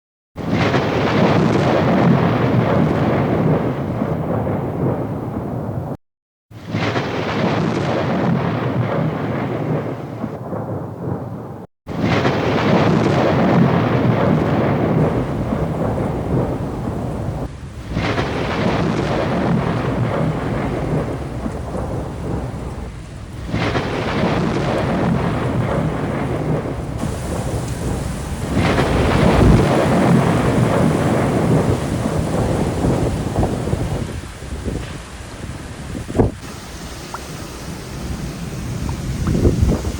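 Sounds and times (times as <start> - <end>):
heavy rain: 0.4 - 5.9, 6.5 - 11.3, 11.9 - 39.9
rolls of thunder: 0.4 - 6.0, 6.6 - 35.0.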